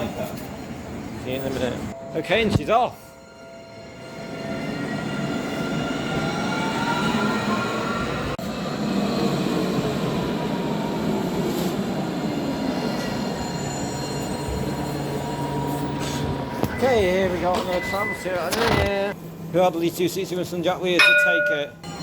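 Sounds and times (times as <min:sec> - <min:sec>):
tram motors whining: 0:00.1 - 0:19.5.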